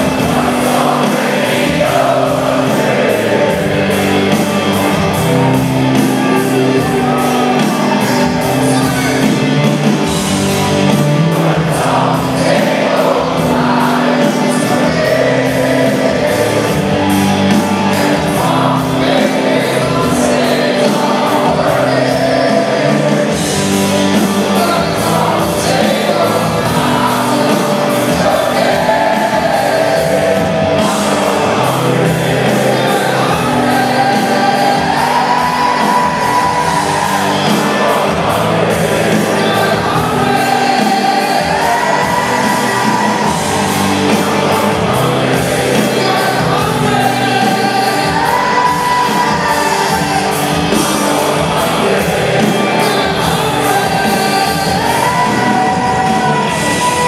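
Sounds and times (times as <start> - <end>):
live rock band playing: 0.0 - 57.0
man singing: 10.9 - 57.0.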